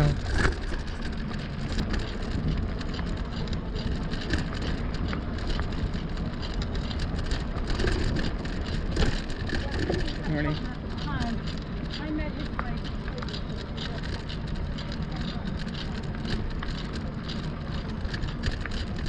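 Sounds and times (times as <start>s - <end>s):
tyres rolling on trail: 0.0s - 19.0s.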